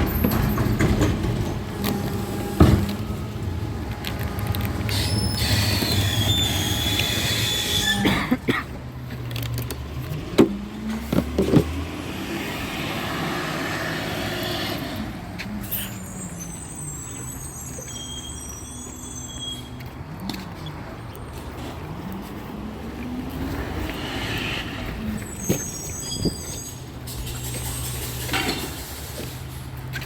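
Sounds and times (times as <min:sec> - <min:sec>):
truck engine revving: 0:00.0 - 0:19.0, 0:19.7 - 0:30.0.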